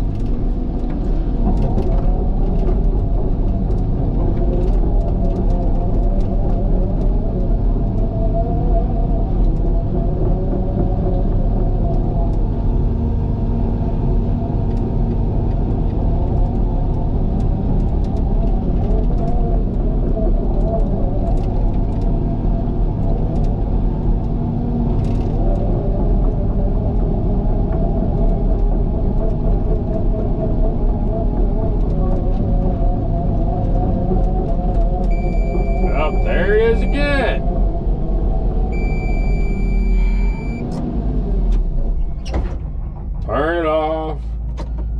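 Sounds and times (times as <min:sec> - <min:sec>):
diesel engine rumbling: 0:00.0 - 0:44.9.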